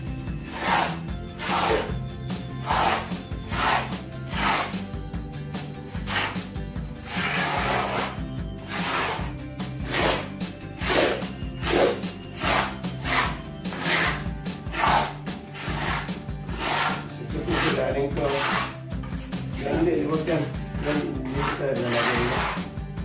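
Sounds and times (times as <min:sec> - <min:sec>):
background music: 0:00.0 - 0:23.0
rasping scrapes: 0:00.3 - 0:02.0, 0:02.6 - 0:05.0, 0:05.7 - 0:22.7.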